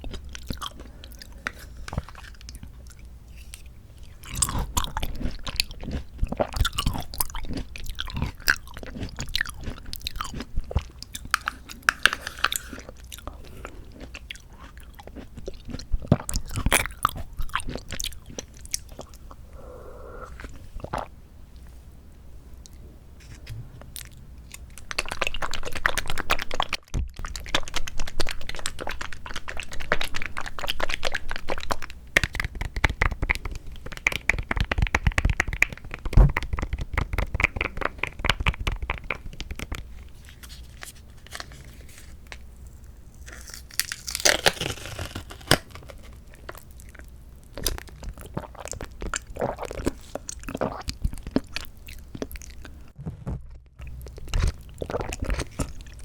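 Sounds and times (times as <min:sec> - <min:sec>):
wet crackly chewing: 0:00.0 - 0:19.4, 0:24.0 - 0:53.0, 0:53.8 - 0:56.0.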